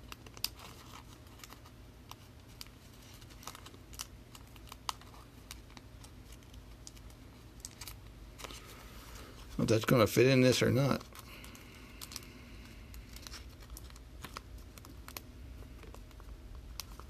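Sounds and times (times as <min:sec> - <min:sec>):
trading cards being handled: 0:00.0 - 0:17.0.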